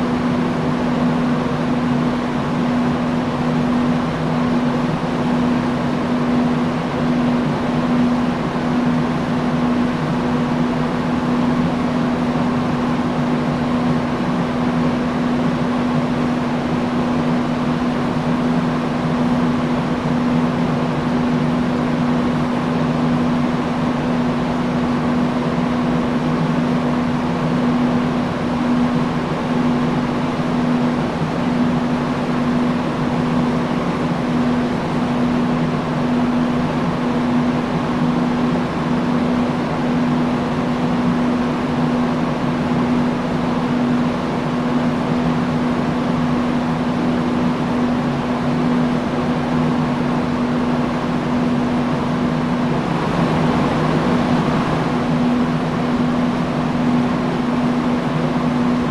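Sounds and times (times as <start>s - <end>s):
industrial fan running: 0.0s - 58.9s.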